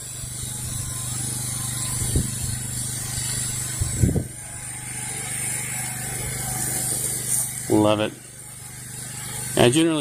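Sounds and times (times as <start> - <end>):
pressure washer engine hum: 0.0 - 10.0
spray gun hissing: 0.0 - 10.0.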